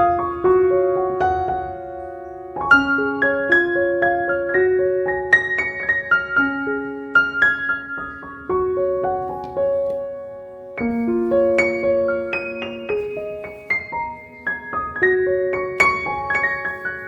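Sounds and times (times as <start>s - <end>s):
solo piano arpeggios: 0.0s - 17.0s.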